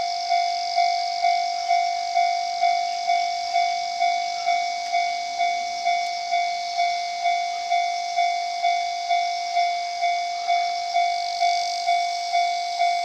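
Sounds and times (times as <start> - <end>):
level-crossing bell clanging: 0.0 - 13.0.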